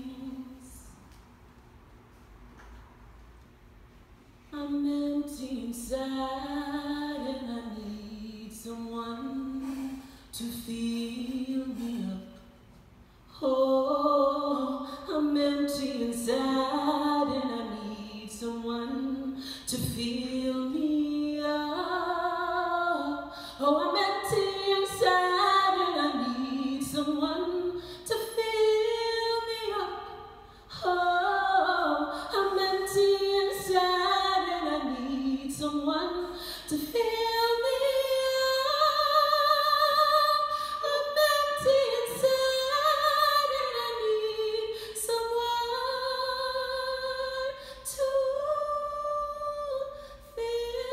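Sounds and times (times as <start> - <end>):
woman singing a cappella: 0.0 - 1.0, 4.4 - 12.7, 13.3 - 50.9.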